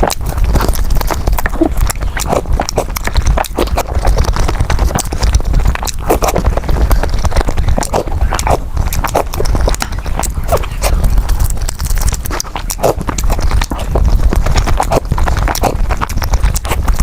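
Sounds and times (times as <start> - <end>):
wet chewing and lip smacks: 0.0 - 17.0.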